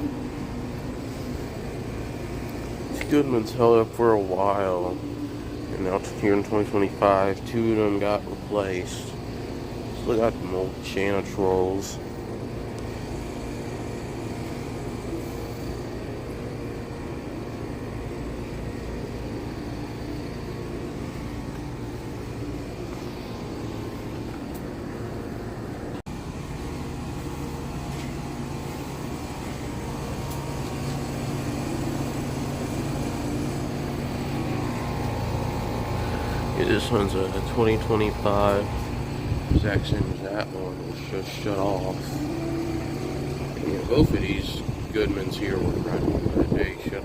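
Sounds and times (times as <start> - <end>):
air conditioner units humming: 0.0 - 47.0.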